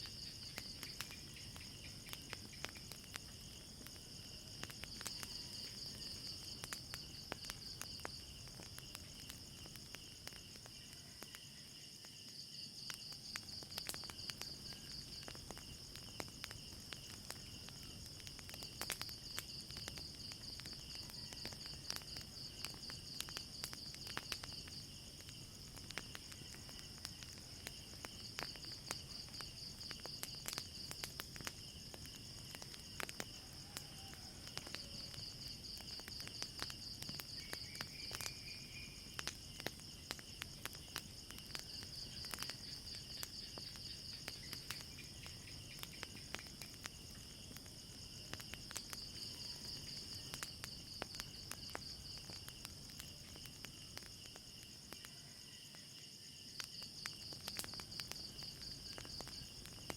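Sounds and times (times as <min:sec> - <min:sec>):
crickets trilling: 0:00.0 - 0:59.9
low insect tone: 0:00.0 - 0:59.9
wood fire crackling: 0:00.0 - 0:59.9.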